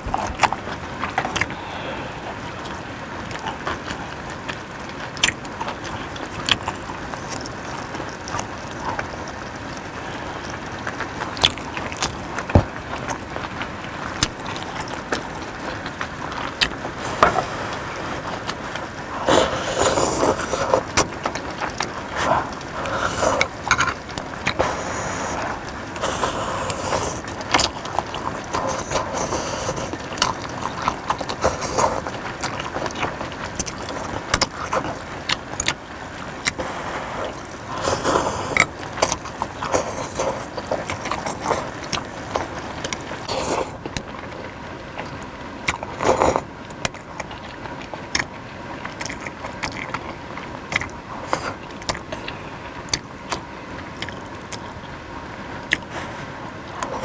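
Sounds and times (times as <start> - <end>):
slurping: 0.0 - 54.9, 55.6 - 57.0
chewing: 0.0 - 57.0.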